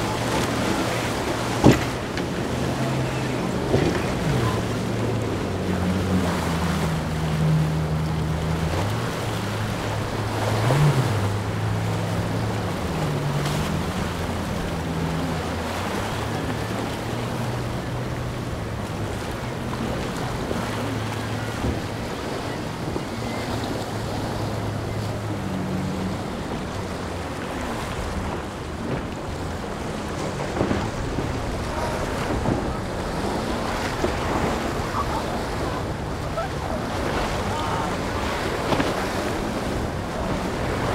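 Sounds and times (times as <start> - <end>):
powerboat engines droning: 0.0 - 40.9
waves breaking: 0.0 - 40.9
wind buffeting microphone: 0.0 - 40.9.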